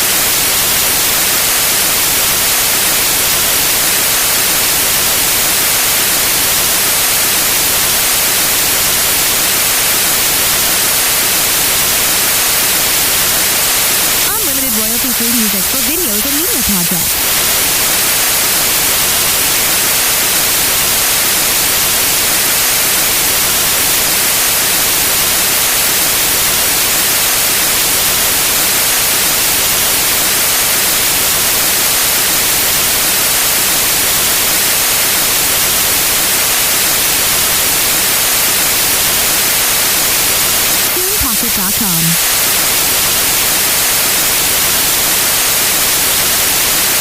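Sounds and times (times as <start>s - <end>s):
white noise hiss: 0.0s - 47.0s.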